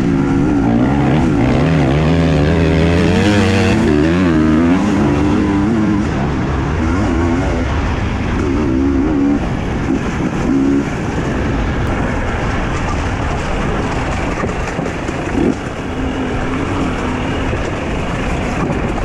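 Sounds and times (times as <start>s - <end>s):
motorcycle engine revving: 0.0s - 12.2s, 13.2s - 19.0s
rough rumble and rattle: 0.0s - 19.0s.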